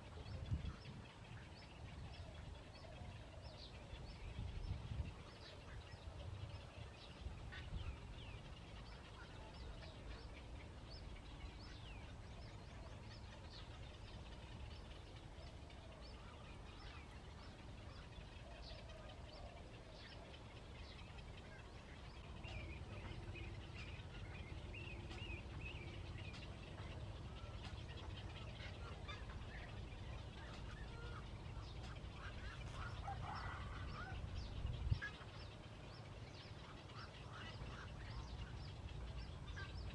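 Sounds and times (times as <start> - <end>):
birds chirping: 0.0 - 39.9
lower bird calls: 0.0 - 39.9.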